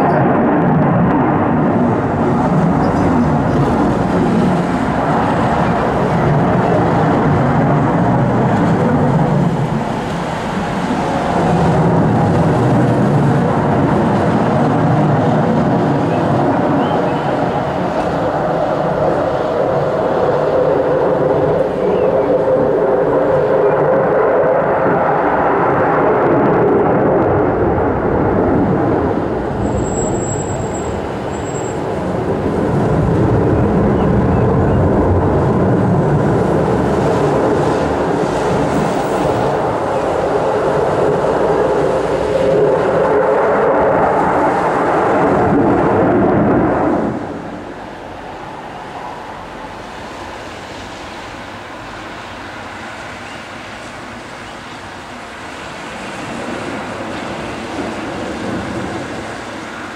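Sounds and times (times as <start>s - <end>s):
jet engines passing overhead: 0.0s - 59.9s.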